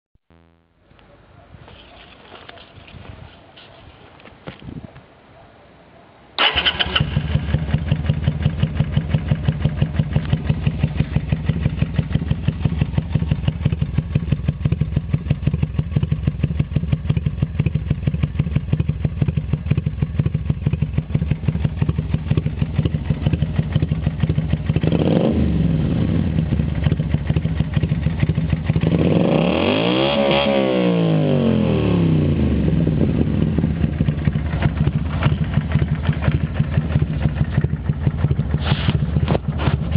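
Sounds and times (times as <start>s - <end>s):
motorcycle engine idling and revving: 6.4s - 39.9s.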